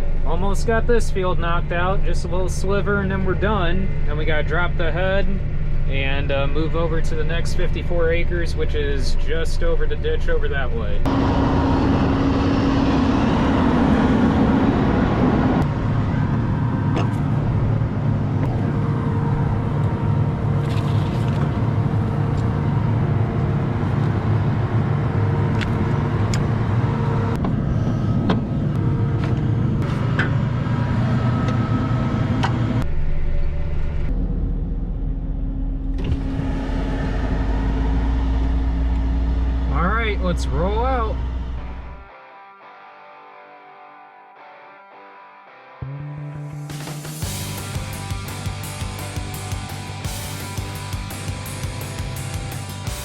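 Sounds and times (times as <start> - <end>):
farm machinery engine humming: 0.0 - 42.1, 46.9 - 53.0.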